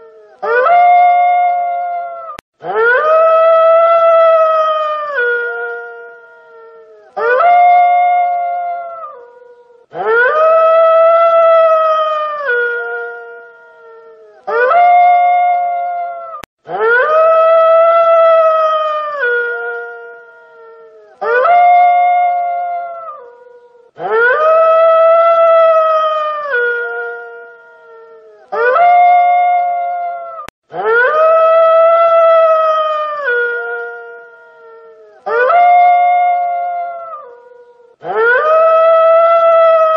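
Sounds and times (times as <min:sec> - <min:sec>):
wolf howling: 0:00.0 - 0:39.9.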